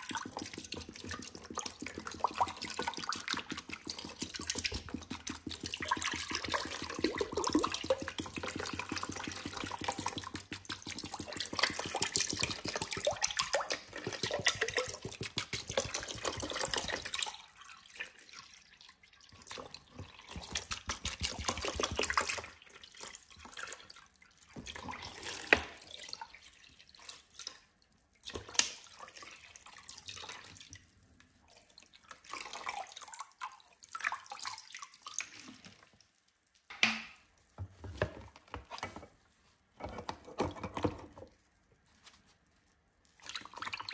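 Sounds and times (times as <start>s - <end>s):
liquid pouring into plastic tub: 0.0s - 43.9s.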